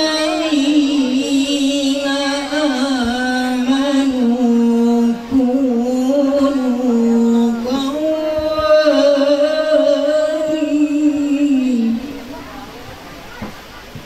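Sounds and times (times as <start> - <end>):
man reciting melodically: 0.0 - 12.2.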